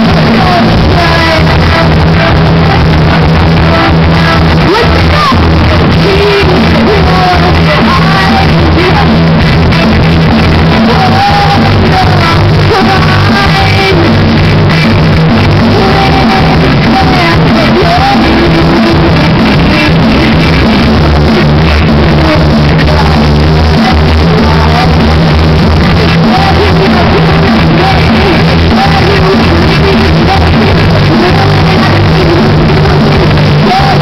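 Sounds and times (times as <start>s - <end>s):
woman singing: 0.0s - 9.8s, 10.4s - 34.0s
live rock band playing: 0.0s - 34.0s.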